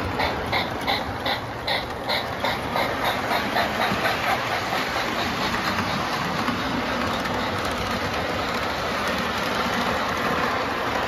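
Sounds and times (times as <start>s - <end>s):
metal wheels rumbling on rails: 0.0s - 11.0s.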